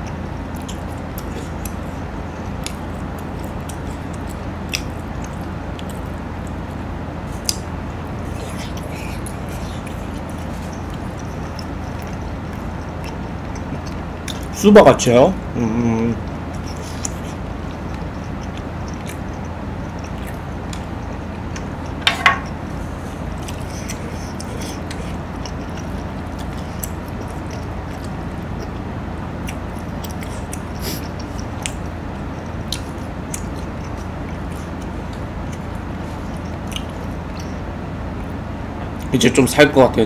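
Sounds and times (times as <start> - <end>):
chewing: 0.0 - 14.6, 16.2 - 39.1.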